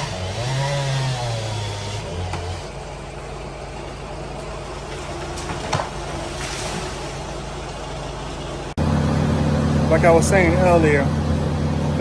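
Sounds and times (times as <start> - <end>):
engine idling: 1.5 - 12.0.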